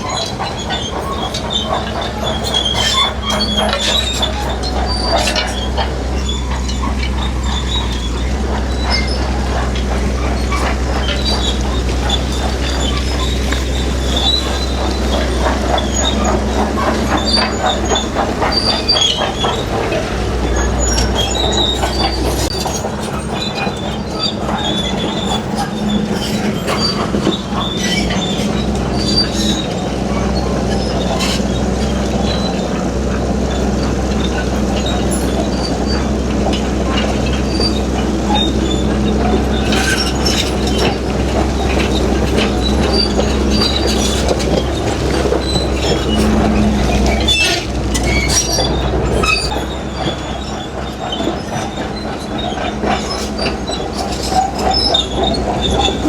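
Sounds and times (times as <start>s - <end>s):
bulldozer diesel engine running: 0.0s - 56.0s
metallic clanks from tracks: 0.0s - 56.0s.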